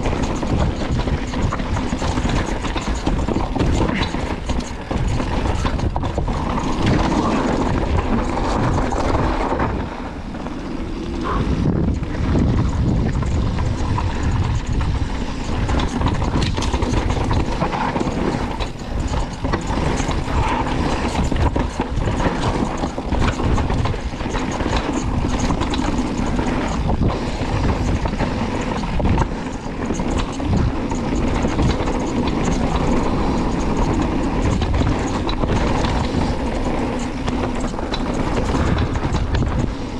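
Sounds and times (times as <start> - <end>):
bike chain and frame rattling: 0.0 - 39.9
wind noise: 0.0 - 39.9.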